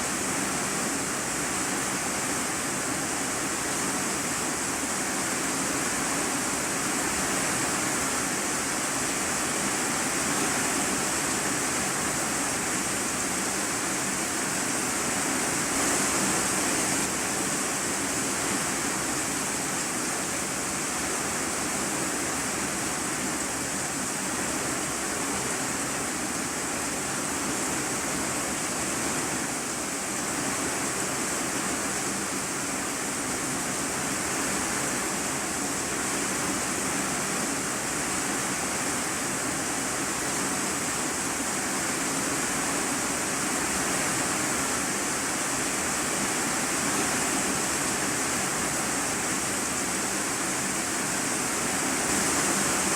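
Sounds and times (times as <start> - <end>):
heavy rain on a metal roof: 0.0 - 52.9.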